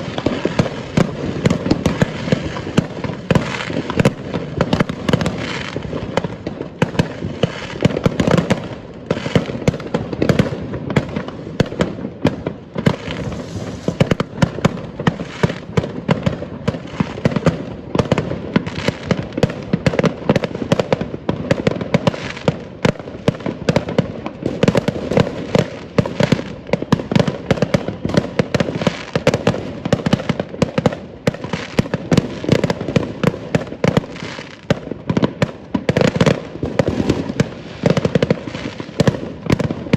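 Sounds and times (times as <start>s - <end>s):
fireworks barrage of bangs: 0.0s - 39.9s.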